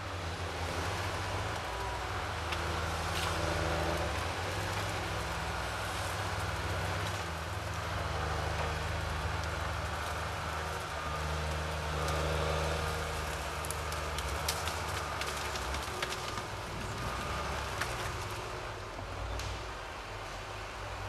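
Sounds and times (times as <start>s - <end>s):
diesel engines of heavy machines: 0.0s - 21.0s.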